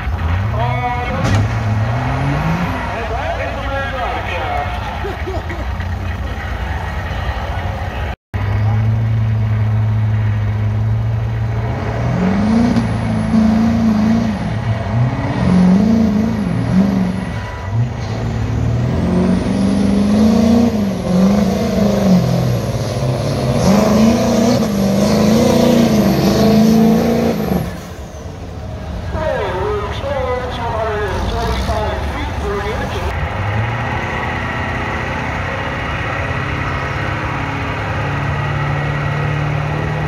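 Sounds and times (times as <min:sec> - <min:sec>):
diesel truck engine at full throttle: 0:00.0 - 0:40.0.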